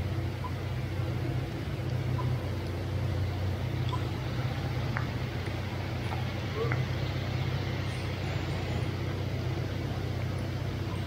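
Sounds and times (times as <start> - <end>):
rain hiss: 0.0 - 11.0
traffic hum: 0.0 - 11.0.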